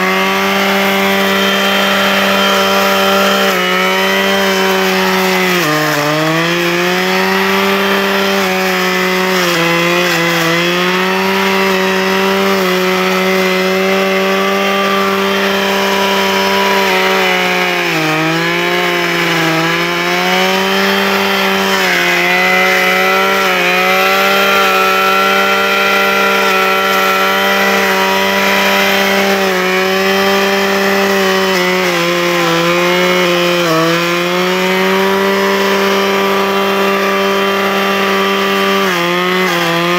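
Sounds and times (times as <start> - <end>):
brushcutter engine at high revs: 0.0 - 39.9.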